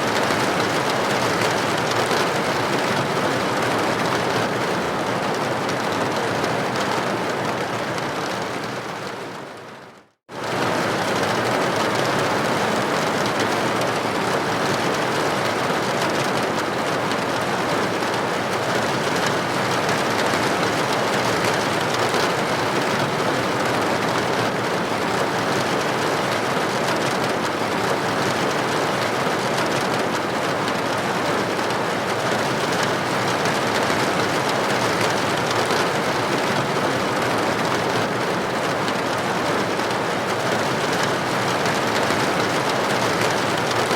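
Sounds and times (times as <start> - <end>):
rain against a window: 0.0 - 43.9.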